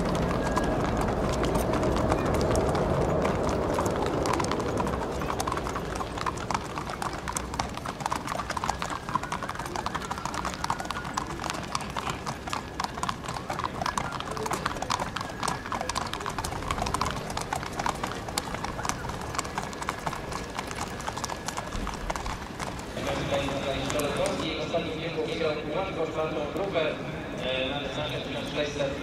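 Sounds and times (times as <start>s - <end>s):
horse hooves clattering: 0.0s - 29.0s.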